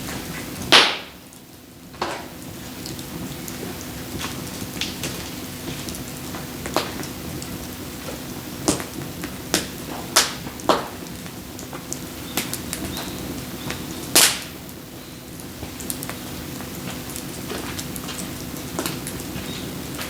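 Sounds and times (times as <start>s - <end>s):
steady hiss and low hum: 0.0s - 20.0s.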